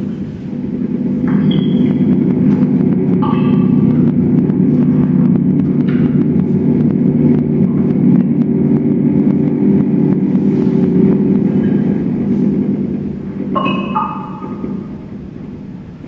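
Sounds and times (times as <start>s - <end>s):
amplified low drone: 0.0s - 16.0s
higher held tones: 0.6s - 16.0s.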